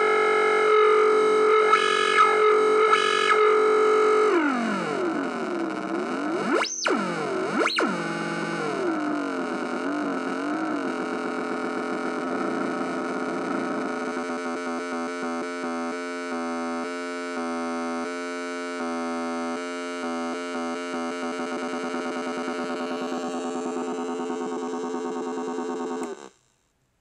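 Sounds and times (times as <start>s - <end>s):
buzzy electronic tone: 0.0s - 18.1s, 19.0s - 26.3s.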